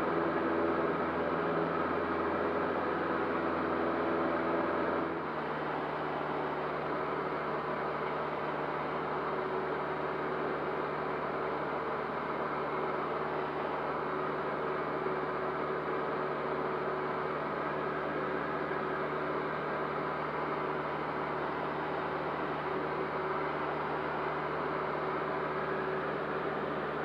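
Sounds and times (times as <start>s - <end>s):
propeller plane engine droning: 0.0s - 27.0s.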